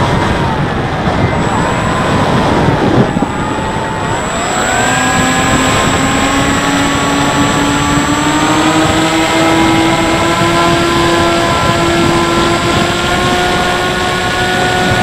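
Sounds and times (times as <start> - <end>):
electric motor and propeller whining: 0.0 - 15.0
wind rush: 0.0 - 15.0.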